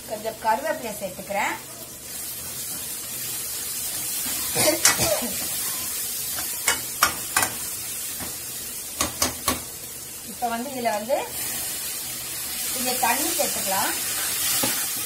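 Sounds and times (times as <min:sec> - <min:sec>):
onion and tomato sizzling in oil: 0:00.0 - 0:15.0.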